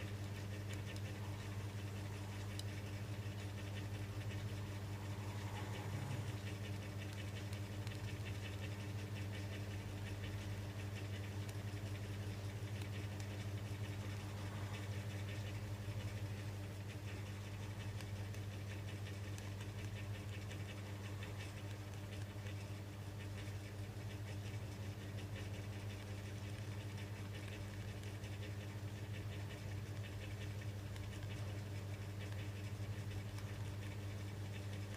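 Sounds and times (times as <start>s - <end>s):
faint scratching and ticking: 0.0s - 34.9s
low electrical hum: 0.0s - 34.9s.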